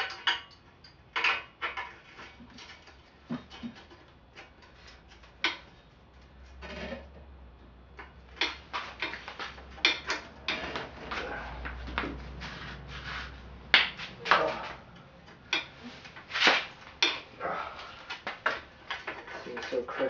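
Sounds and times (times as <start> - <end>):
metal tools clanking and scraping: 0.0 - 7.2, 7.9 - 13.4, 14.0 - 20.0.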